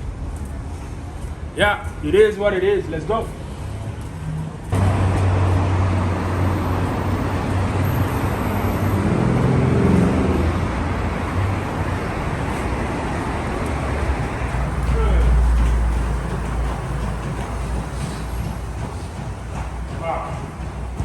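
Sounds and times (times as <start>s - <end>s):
road traffic hum: 0.0s - 21.0s.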